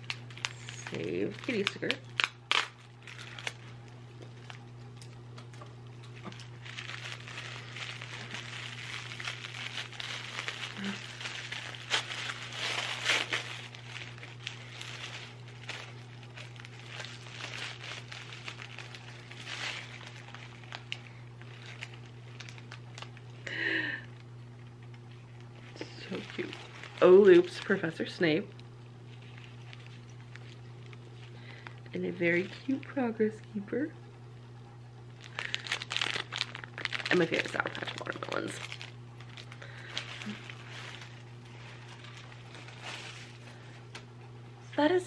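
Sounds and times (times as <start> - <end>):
gift wrapping crinkling and tearing: 0.0 - 5.2, 5.8 - 33.0, 35.1 - 44.1
low hum: 0.0 - 45.0.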